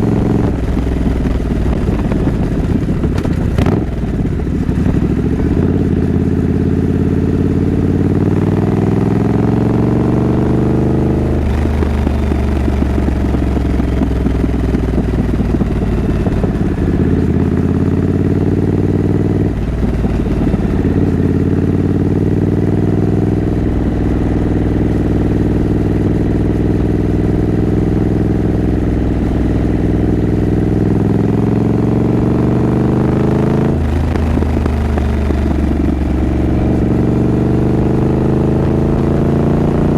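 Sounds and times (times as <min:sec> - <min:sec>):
motorcycle engine accelerating through gears: 0:00.0 - 0:39.9.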